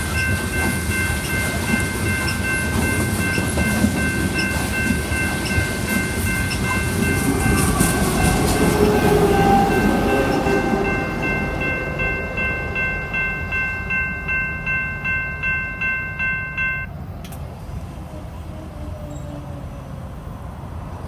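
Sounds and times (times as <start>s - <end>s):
crossing bell ringing rapidly: 0.0s - 16.9s
freight train rumbling: 0.0s - 21.0s.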